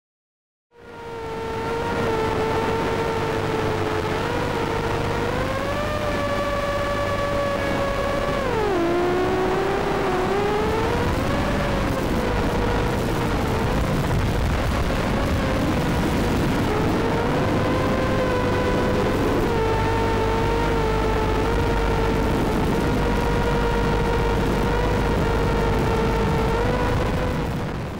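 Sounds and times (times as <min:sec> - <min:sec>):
drone motors whining: 0:00.8 - 0:27.9
low rushing noise: 0:01.2 - 0:27.9.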